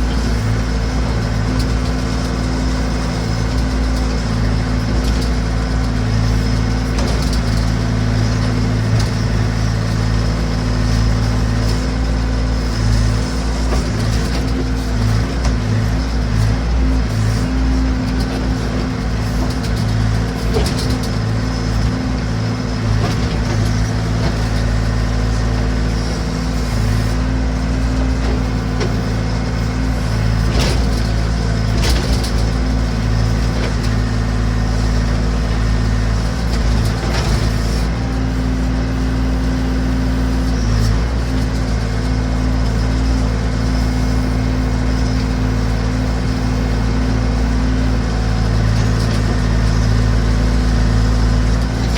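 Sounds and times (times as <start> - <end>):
backhoe engine running: 0.0 - 51.9.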